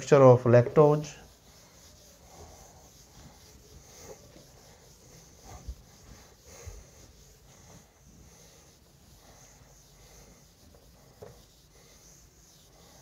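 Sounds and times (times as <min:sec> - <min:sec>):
duster rubbing on whiteboard: 0:00.6 - 0:13.0.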